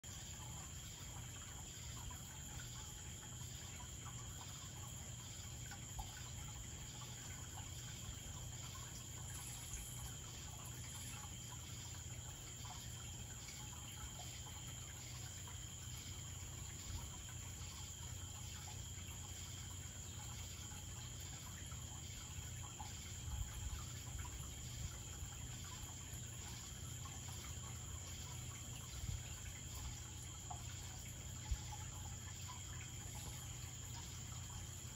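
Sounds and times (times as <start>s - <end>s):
water trickling: 0.0s - 34.9s.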